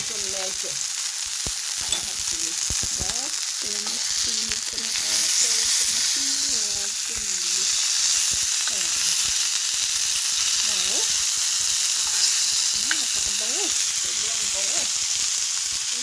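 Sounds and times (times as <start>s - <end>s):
sausages sizzling in a pan: 0.0s - 16.0s.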